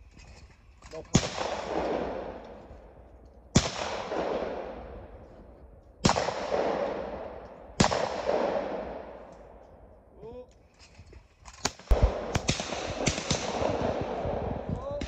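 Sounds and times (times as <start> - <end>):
shotgun shots with rolling echo: 1.1 - 10.0, 11.6 - 15.0.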